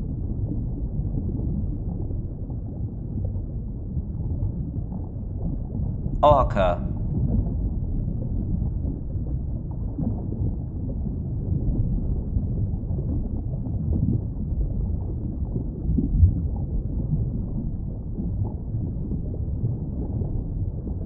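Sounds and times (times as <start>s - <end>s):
underwater rumble of moving water: 0.0s - 21.0s.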